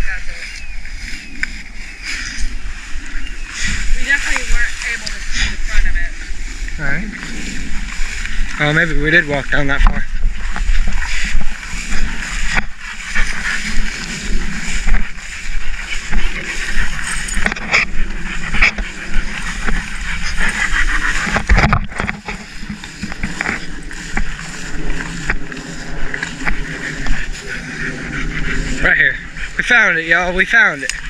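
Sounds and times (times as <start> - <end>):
footsteps through tall grass: 0.0 - 31.0
wind buffeting microphone: 0.0 - 31.0.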